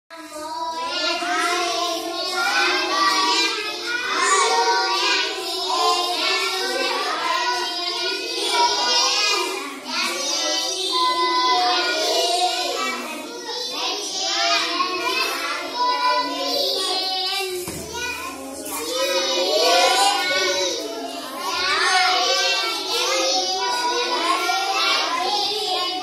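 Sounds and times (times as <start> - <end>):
children singing: 0.1 - 26.0.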